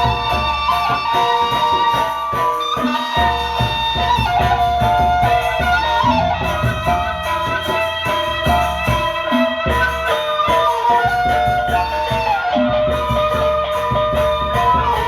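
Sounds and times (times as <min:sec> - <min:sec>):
high ornamented melody: 0:00.0 - 0:15.0
low drum beats: 0:00.0 - 0:15.0.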